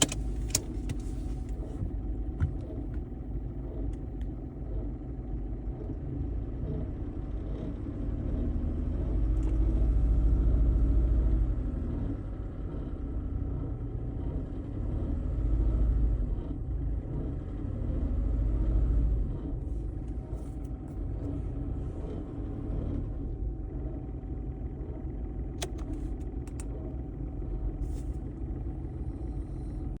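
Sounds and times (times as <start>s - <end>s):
diesel engine rumbling: 0.0s - 30.0s.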